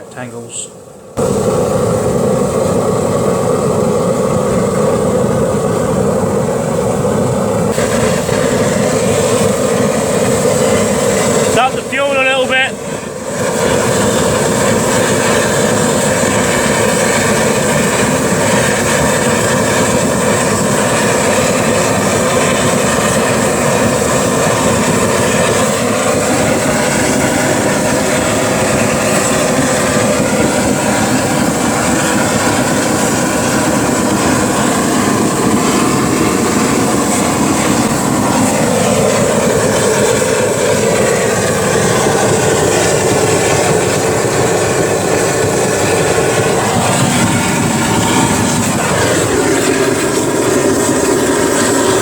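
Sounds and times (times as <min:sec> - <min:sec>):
burner roaring in furnace: 0:00.0 - 0:52.0.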